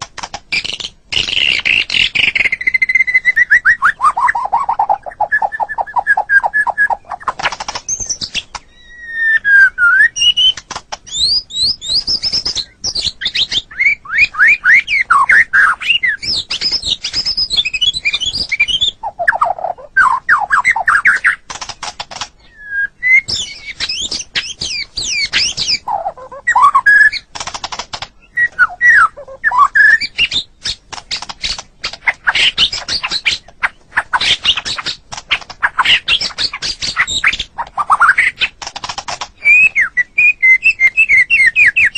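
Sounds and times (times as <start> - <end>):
songbird singing whistled song: 0.5 - 27.3, 28.2 - 38.6, 39.2 - 41.9.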